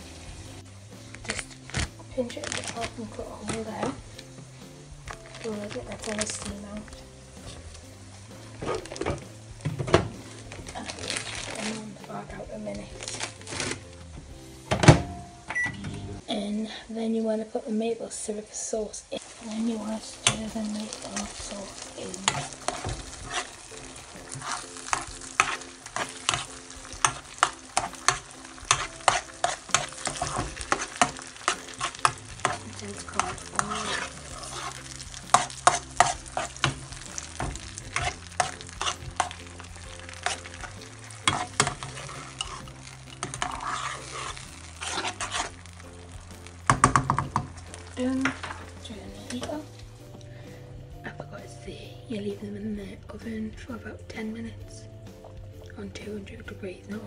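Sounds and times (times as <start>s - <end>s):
sauce sizzling and bubbling: 0.0s - 14.7s, 18.0s - 51.0s.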